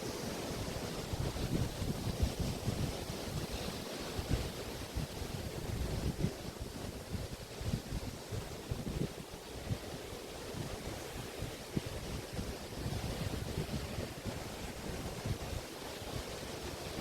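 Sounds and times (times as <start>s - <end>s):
waves washing onto beach: 0.0s - 17.0s
wind buffeting microphone: 1.0s - 17.0s.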